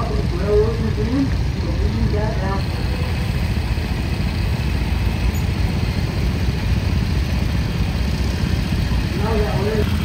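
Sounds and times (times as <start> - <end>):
engine low rumble: 0.0 - 10.0.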